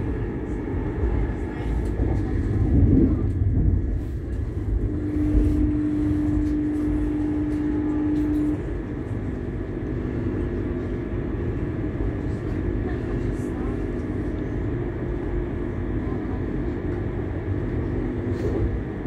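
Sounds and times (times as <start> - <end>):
train rumble and hiss: 0.0 - 19.0.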